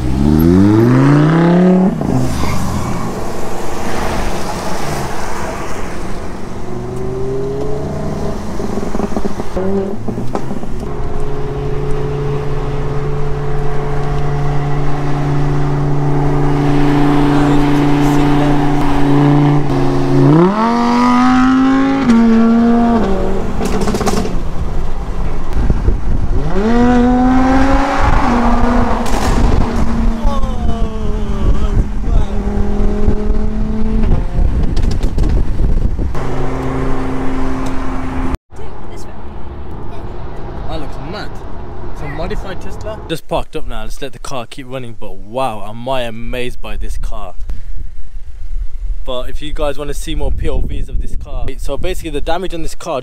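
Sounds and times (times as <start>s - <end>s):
car engine revving: 0.0s - 43.1s.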